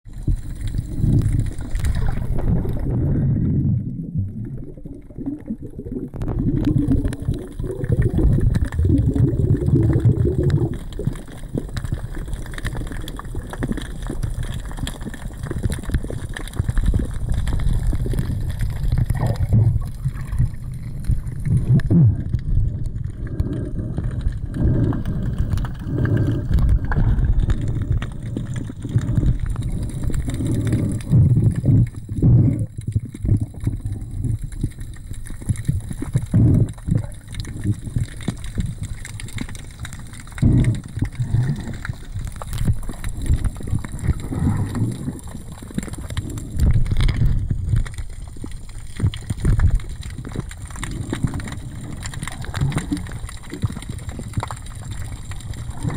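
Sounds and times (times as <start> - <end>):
underwater rumbling and sloshing: 0.0 - 55.9.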